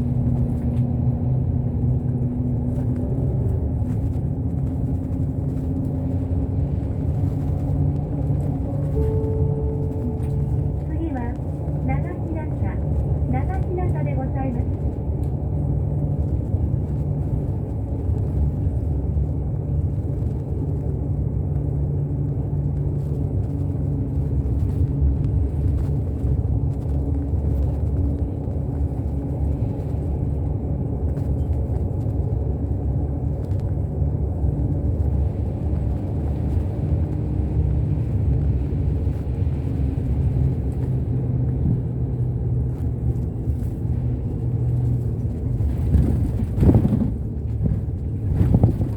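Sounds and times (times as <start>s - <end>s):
bus engine droning: 0.0s - 48.9s
low road rumble: 0.0s - 48.9s.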